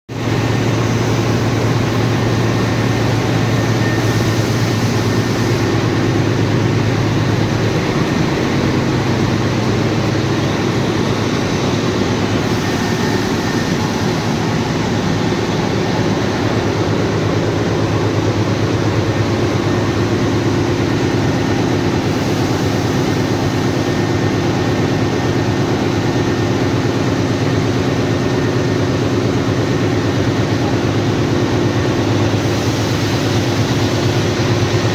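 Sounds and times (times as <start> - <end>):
locomotive engine droning: 0.1 - 34.9.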